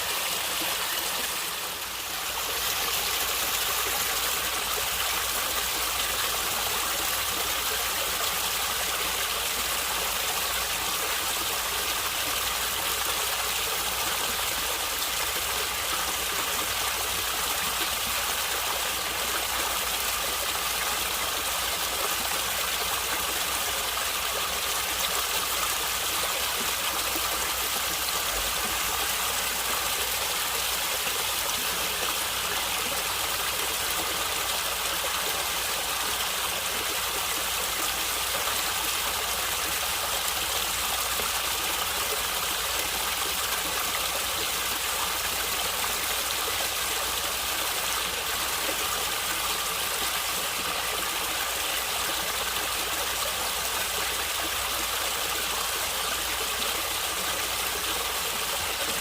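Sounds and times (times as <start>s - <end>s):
stream of water gurgling: 0.0s - 59.0s.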